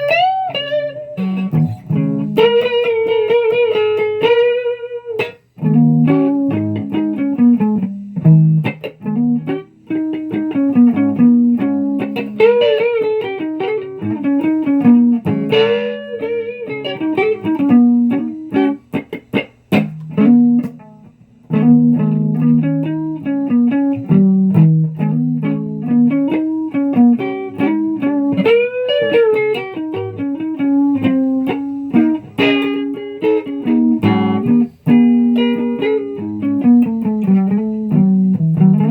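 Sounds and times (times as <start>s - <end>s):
guitar plucked notes: 0.0s - 38.9s.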